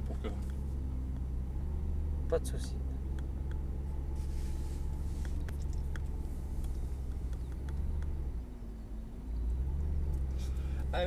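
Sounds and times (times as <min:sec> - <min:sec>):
car engine humming at low revs: 0:00.0 - 0:11.0.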